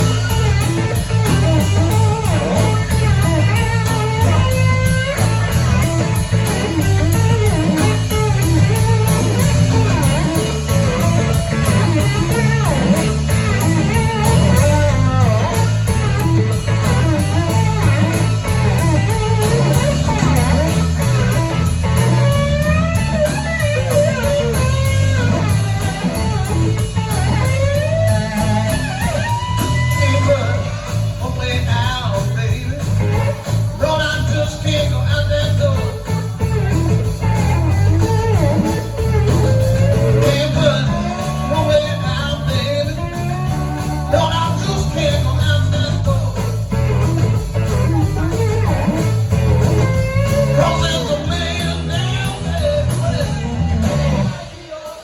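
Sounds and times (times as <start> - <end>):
electric guitar lead lines: 0.0 - 54.8
steady bass guitar: 0.0 - 55.0.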